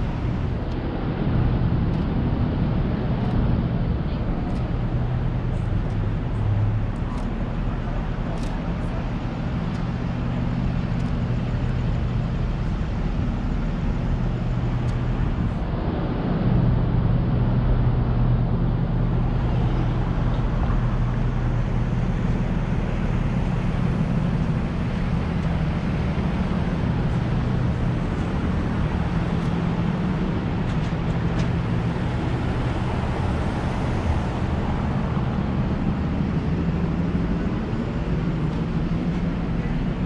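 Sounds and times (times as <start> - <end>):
cars driving on a road: 0.0 - 40.0
continuous low hum: 0.0 - 40.0.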